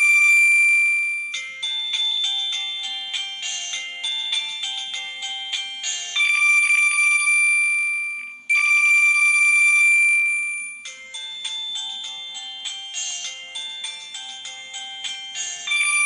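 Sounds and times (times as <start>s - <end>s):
electronic ringtone melody: 0.0s - 16.0s.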